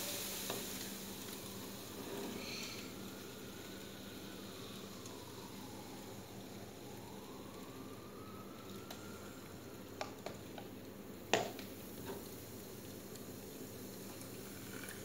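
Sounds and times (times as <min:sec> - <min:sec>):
model volcano fizzing: 0:00.0 - 0:10.6, 0:11.4 - 0:15.0.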